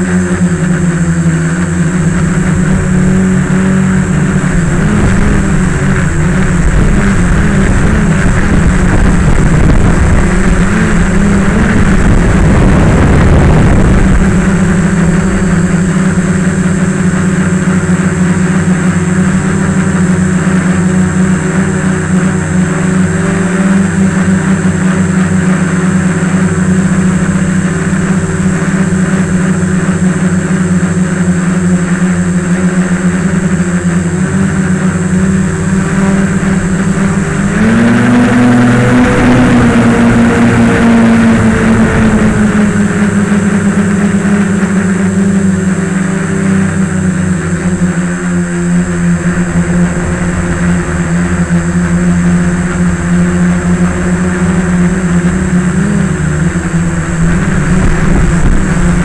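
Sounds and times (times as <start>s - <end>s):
model aircraft motor drone: 0.0s - 59.0s
wind rumble on microphone: 0.0s - 59.0s.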